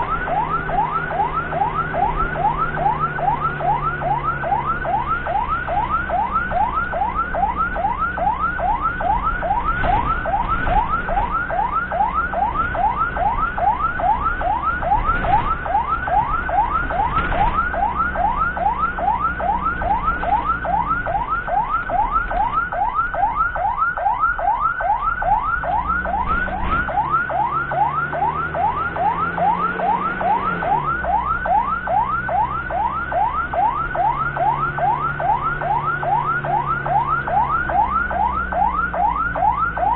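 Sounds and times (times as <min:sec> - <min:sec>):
ambulance siren yelping: 0:00.0 - 0:39.9
vehicle engine drone: 0:00.0 - 0:39.9.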